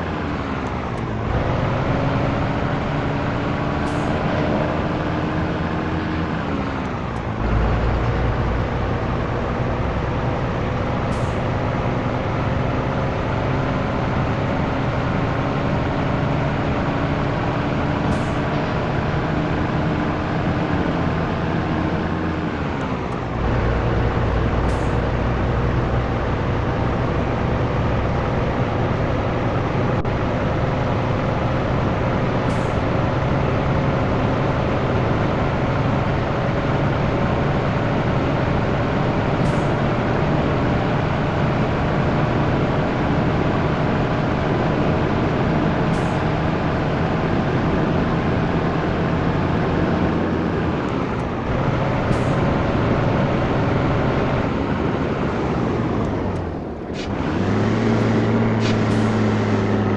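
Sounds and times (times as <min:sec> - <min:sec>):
truck diesel engine pulling: 0:00.0 - 0:59.9.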